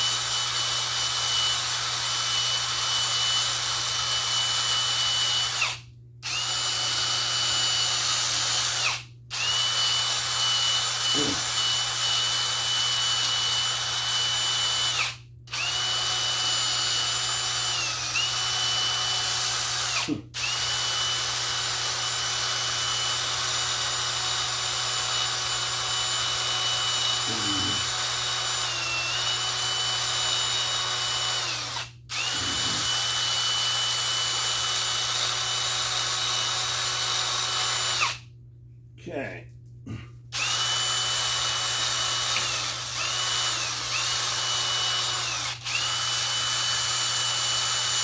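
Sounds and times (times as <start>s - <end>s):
electric drill motor whine: 0.0s - 38.2s, 40.4s - 48.0s.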